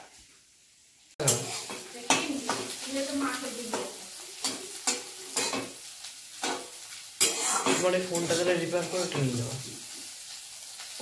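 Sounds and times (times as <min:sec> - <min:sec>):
food sizzling in a pan: 0:00.0 - 0:11.0
spatula scraping a pan: 0:01.2 - 0:10.4.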